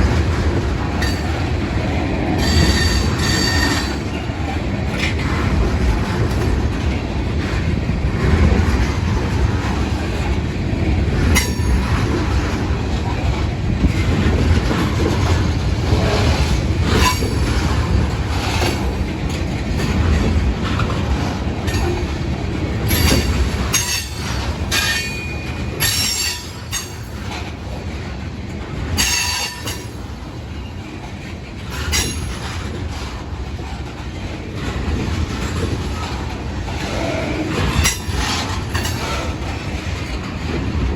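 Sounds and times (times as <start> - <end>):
clanks over rail joints: 0.0 - 40.9
freight train wheel rumble: 0.0 - 40.9.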